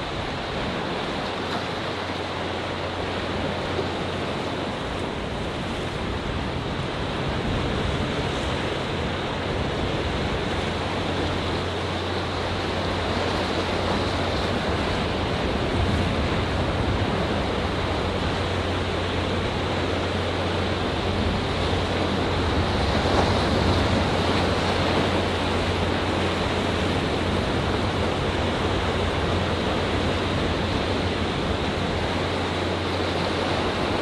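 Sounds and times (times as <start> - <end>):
waves washing among rocks: 0.0 - 34.0.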